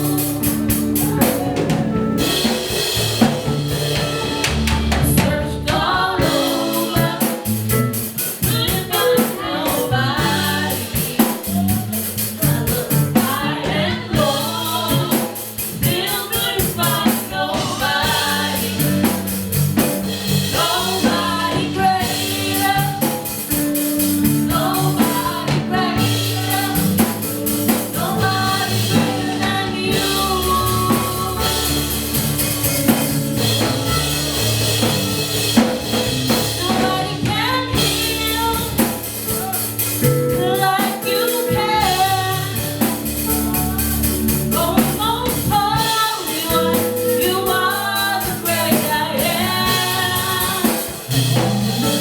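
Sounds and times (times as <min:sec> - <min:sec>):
person singing: 0:00.0 - 0:02.6, 0:04.9 - 0:19.2, 0:20.5 - 0:35.2, 0:36.3 - 0:52.0
band with drums and bass: 0:00.0 - 0:52.0.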